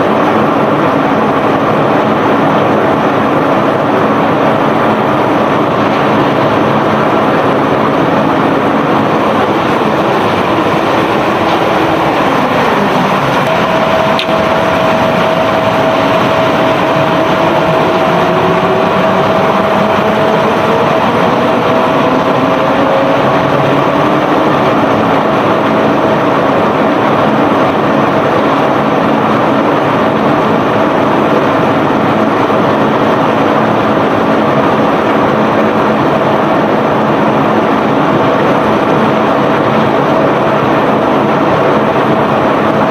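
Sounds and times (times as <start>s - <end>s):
steady whine: 0.0s - 42.9s
unloading machinery running: 0.0s - 42.9s.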